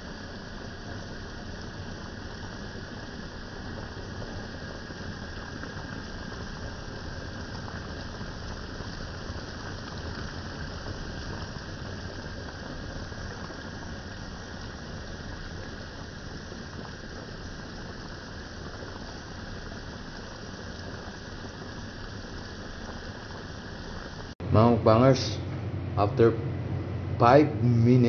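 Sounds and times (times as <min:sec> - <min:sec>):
pot of food simmering: 0:00.0 - 0:24.4.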